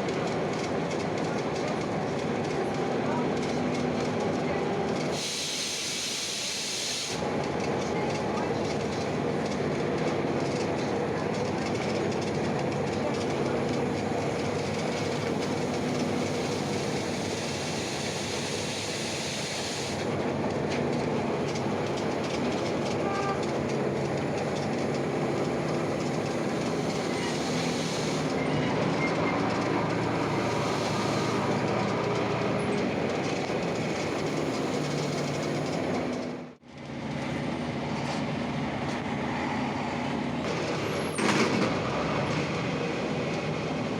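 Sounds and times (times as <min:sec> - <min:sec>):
bus diesel engine running: 0:00.0 - 0:43.9
road noise: 0:00.0 - 0:43.9.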